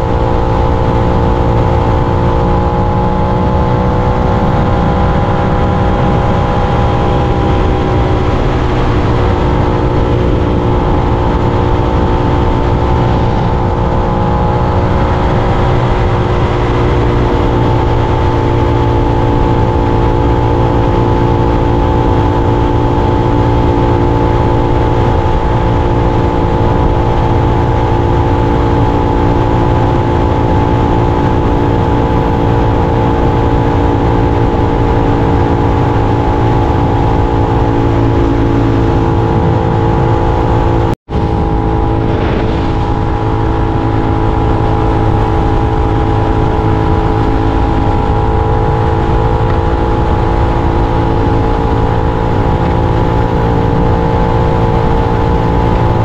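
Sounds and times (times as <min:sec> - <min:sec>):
motorcycle engine cruising: 0:00.0 - 0:56.0
wind noise: 0:00.0 - 0:56.0.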